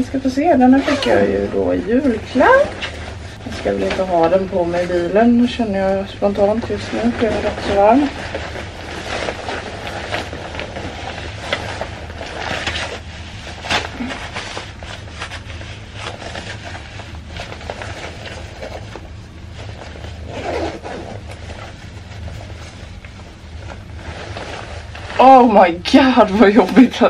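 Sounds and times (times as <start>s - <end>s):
jacket fabric rustling: 0.0s - 27.0s
steady low hum: 0.0s - 27.0s.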